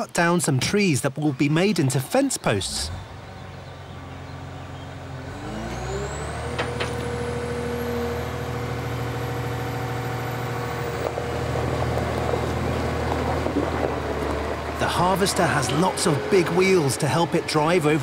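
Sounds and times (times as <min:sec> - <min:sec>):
diesel engine revving: 0:01.6 - 0:18.0.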